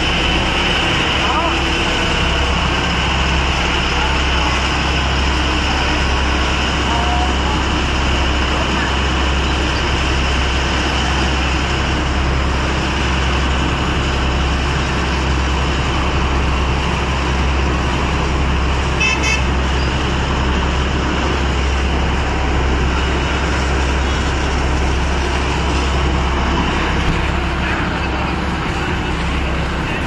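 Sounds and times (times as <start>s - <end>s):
low engine hum: 0.0s - 30.0s.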